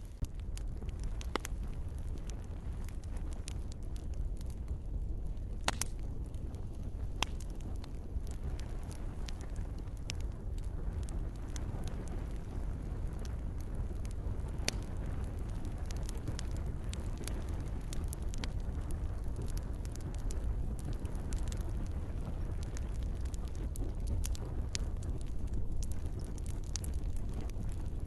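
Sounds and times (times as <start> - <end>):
campfire crackling and popping: 0.0 - 28.0
low rumble of flames: 0.0 - 28.0
soft hiss of rain: 0.0 - 28.0.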